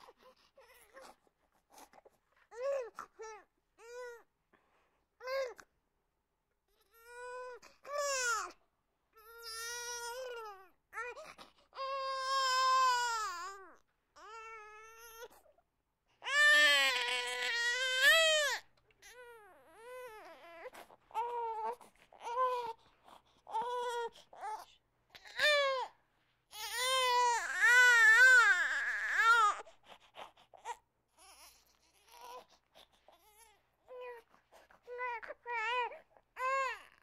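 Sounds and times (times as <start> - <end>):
infant crying: 2.5 - 4.3, 6.7 - 8.6, 9.2 - 15.4, 16.2 - 37.0.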